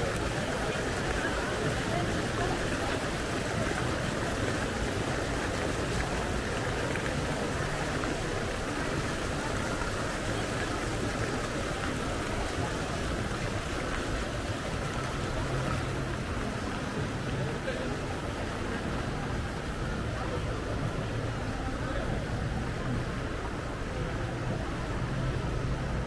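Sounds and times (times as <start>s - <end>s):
rushing outdoor background noise: 0.0s - 26.0s.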